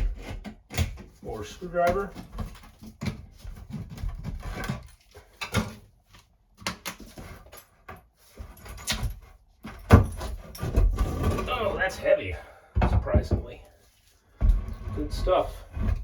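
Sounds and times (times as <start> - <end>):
screwdriver scraping and creaking: 0.0 - 12.2, 14.4 - 16.0.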